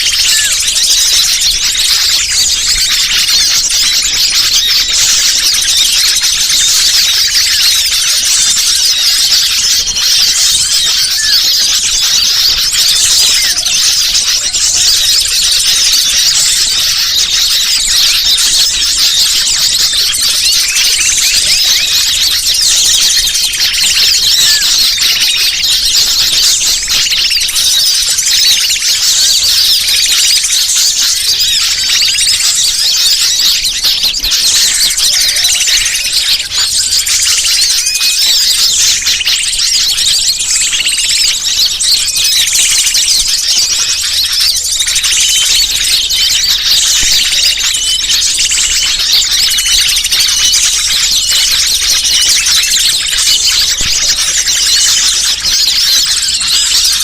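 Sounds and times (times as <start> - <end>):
chorus of small birds chirping: 0.0 - 57.0.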